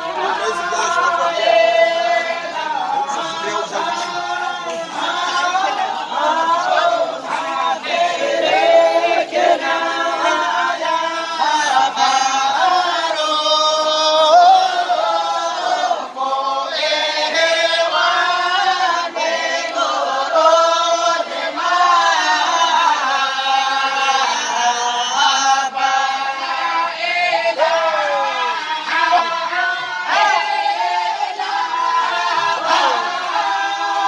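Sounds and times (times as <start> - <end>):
young men singing in chorus: 0.0 - 34.0.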